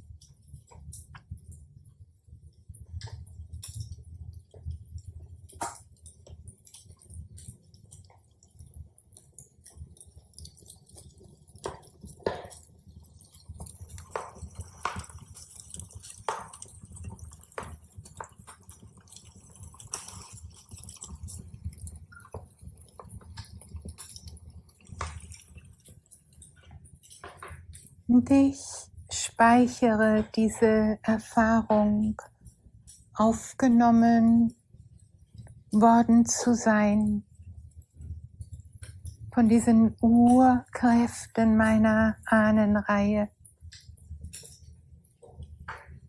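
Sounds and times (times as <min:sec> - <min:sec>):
campfire crackling and popping: 0:00.0 - 0:42.3, 0:43.0 - 0:46.0.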